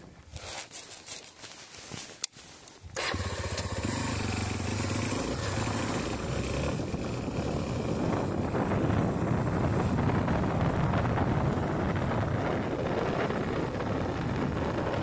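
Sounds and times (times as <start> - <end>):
wind on microphone: 2.8 - 15.0
motorcycle engine running: 3.0 - 15.0.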